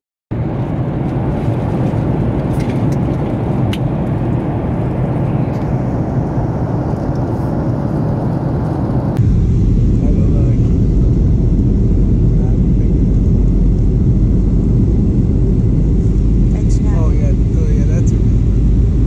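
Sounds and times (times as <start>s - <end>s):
airplane cabin noise: 0.3s - 19.0s.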